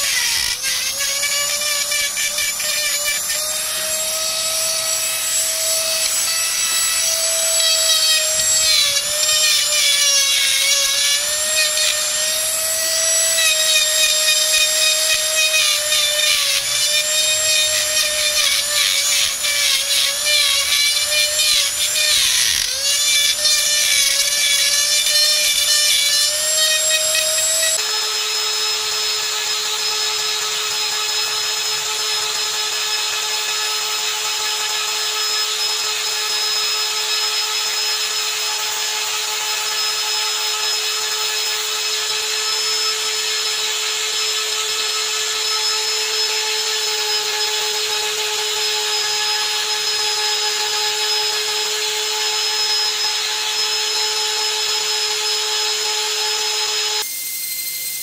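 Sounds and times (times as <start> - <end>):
die grinder whining: 0.0 - 58.0.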